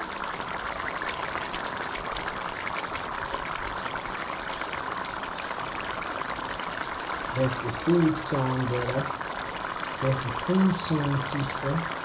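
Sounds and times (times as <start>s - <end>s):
pot boiling with bubbling: 0.0s - 12.0s.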